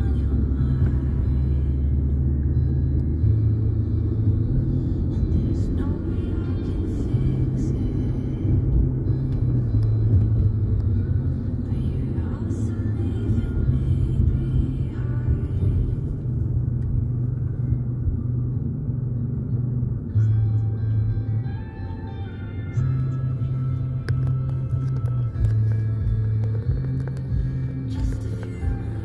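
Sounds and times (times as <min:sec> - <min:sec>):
car driving on road rumble: 0:00.0 - 0:29.0
slow background music: 0:00.0 - 0:29.0.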